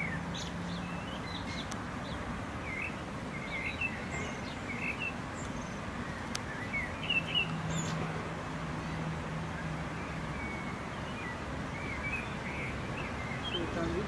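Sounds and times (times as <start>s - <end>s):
birds chirping: 0.0s - 14.0s
outdoor background hiss: 0.0s - 14.0s.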